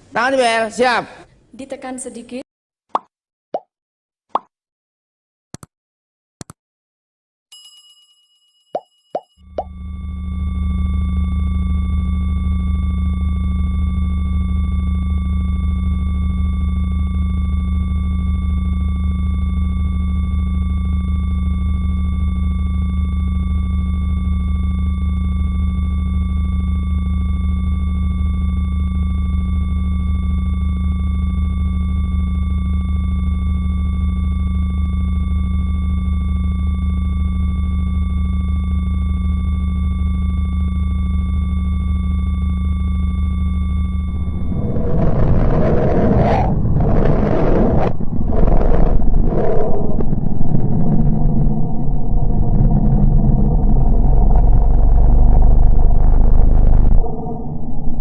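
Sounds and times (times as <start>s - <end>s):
deep steady drone: 9.5s - 58.0s.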